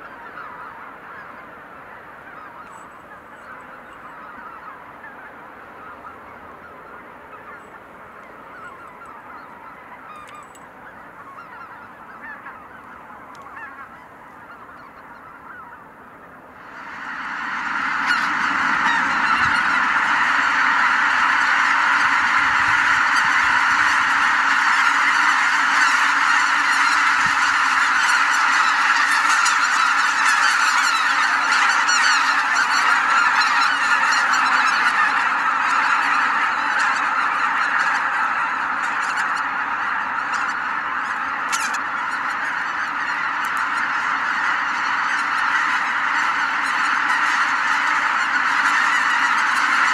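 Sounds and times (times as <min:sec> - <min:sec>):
flock of geese honking: 0:00.0 - 0:49.9.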